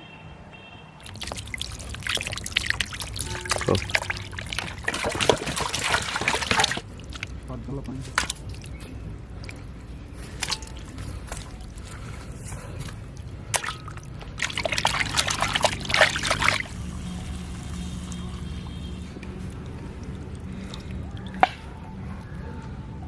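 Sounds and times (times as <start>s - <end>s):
wet eating sounds: 1.0s - 22.4s.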